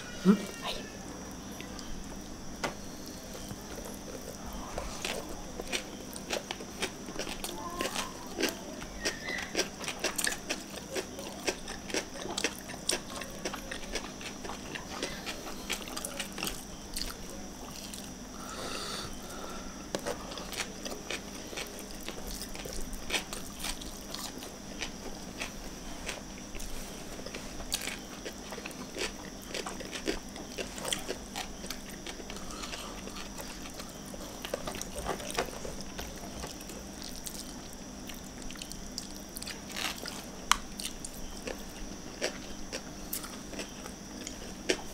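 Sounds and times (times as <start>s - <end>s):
faint steady hum: 0.0s - 44.9s
chewing and lip-smacking: 3.3s - 18.2s, 19.9s - 44.9s.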